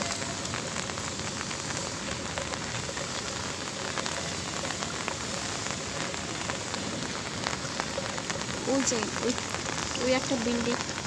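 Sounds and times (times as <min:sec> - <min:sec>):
light rain on concrete roofs: 0:00.0 - 0:11.0.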